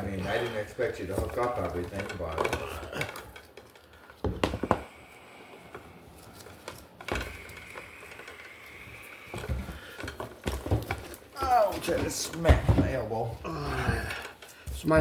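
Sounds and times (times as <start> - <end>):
hand tools clicking and knocking: 0.0 - 15.0.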